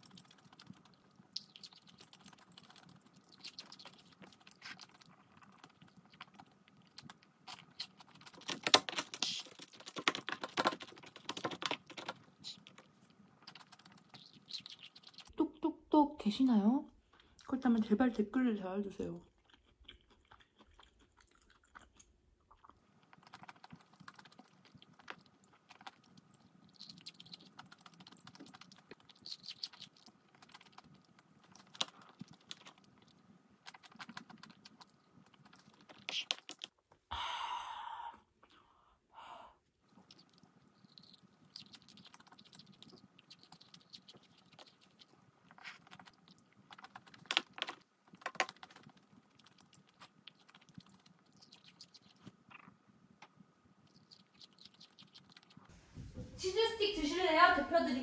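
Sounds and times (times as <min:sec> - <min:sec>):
quiet chewing: 0:00.0 - 0:15.4, 0:19.2 - 0:37.1, 0:39.8 - 0:55.8.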